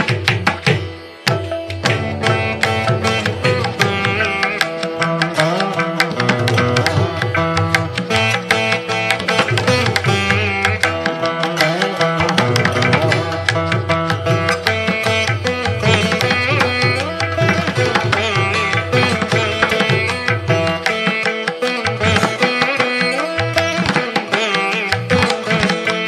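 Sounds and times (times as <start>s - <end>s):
hand drum rhythm: 0.0s - 26.0s
plucked string instrument: 0.0s - 26.0s.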